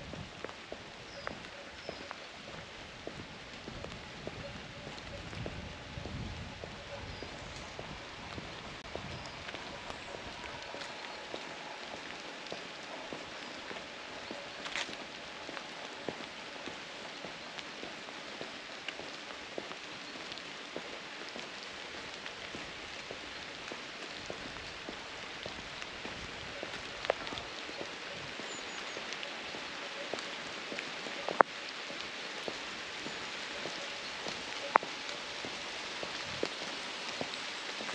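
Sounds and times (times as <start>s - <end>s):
rain pattering: 0.0s - 37.9s.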